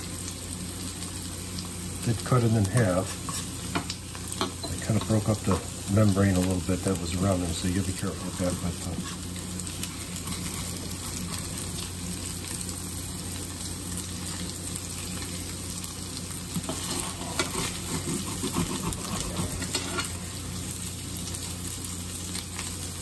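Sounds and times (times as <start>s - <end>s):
steady low hum: 0.0s - 22.2s
food sizzling in a frying pan: 0.0s - 23.0s.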